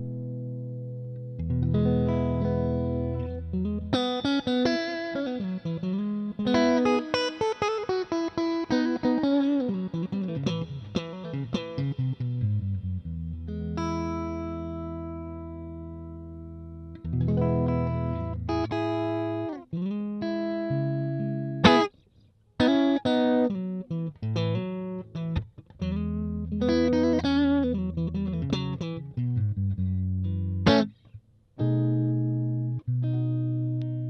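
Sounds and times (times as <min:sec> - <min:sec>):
electric guitar riffs: 0:00.0 - 0:21.9, 0:22.6 - 0:34.0.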